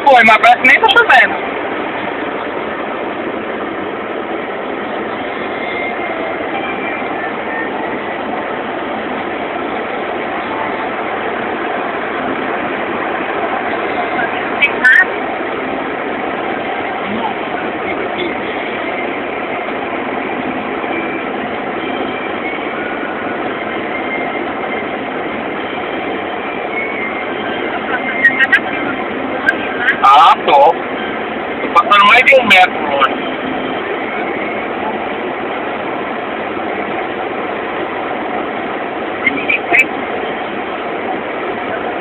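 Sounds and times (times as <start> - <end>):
heavy rain: 0.0 - 42.0
low engine hum: 0.0 - 42.0
traffic on wet road: 0.0 - 42.0.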